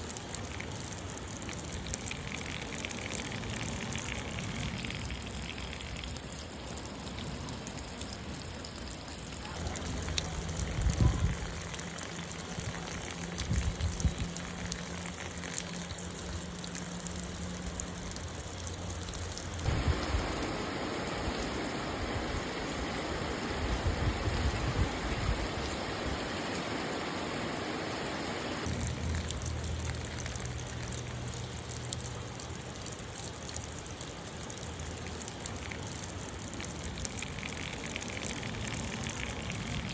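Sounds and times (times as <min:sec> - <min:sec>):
rain patter: 0:00.0 - 0:39.9
trickling water: 0:00.0 - 0:39.9.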